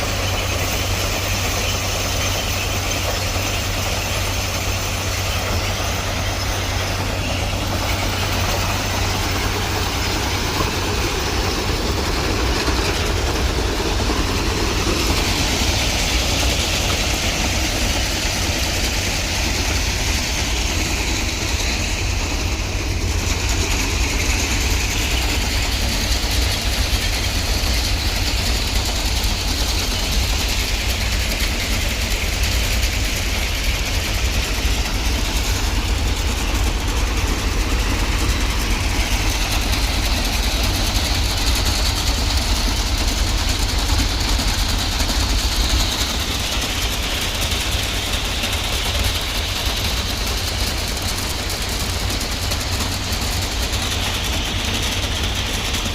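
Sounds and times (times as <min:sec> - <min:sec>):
diesel engine rumbling: 0:00.0 - 0:55.9.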